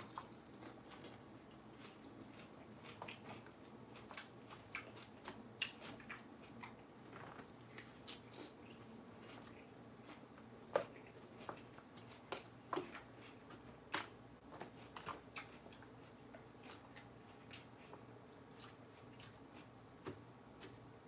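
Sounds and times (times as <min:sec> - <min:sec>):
chewing crunchy lettuce: 0:00.0 - 0:21.0.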